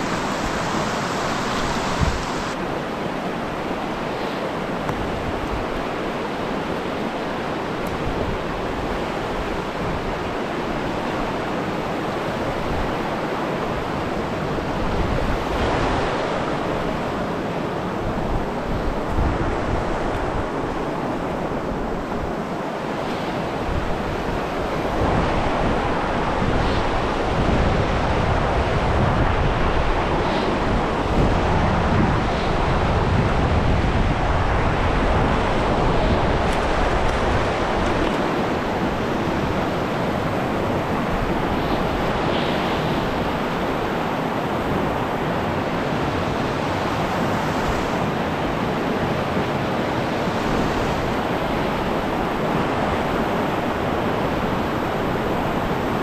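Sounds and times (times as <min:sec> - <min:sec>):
wind buffeting microphone: 0:00.0 - 0:02.8, 0:07.7 - 0:56.0
river rapids rushing: 0:00.0 - 0:19.0, 0:19.6 - 0:56.0.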